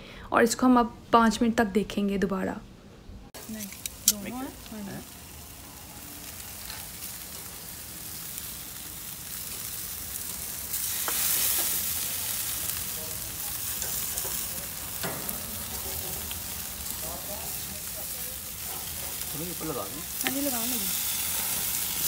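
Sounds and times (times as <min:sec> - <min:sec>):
chicken sizzling on grill: 0:03.4 - 0:22.0.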